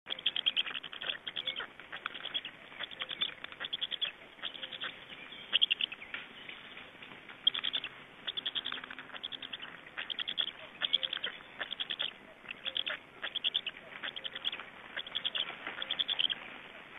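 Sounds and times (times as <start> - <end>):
birds chirping: 0.1 - 16.9.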